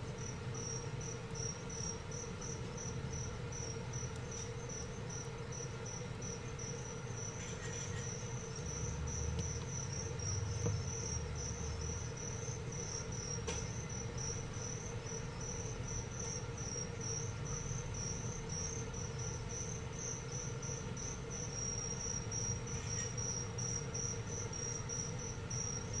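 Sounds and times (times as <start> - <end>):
crickets chirping: 0.0 - 26.0
faint steady hum: 0.0 - 26.0.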